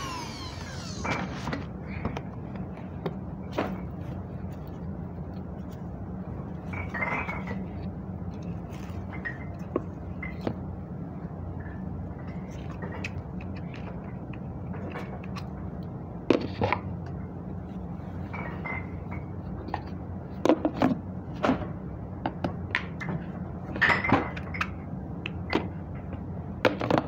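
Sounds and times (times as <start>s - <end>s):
steady low hum: 0.0s - 26.7s.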